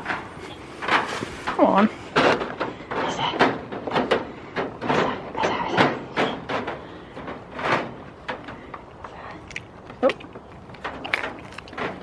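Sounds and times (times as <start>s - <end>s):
goats bumping and brushing: 0.0s - 9.1s, 9.7s - 12.0s.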